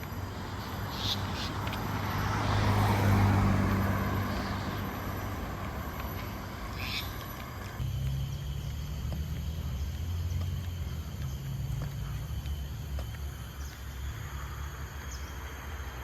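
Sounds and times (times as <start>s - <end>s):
vehicle engine hum and tyre noise: 0.0s - 16.0s.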